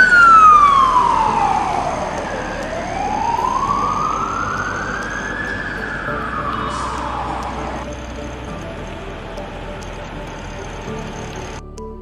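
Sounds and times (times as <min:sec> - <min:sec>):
fire truck siren wailing: 0:00.0 - 0:11.6.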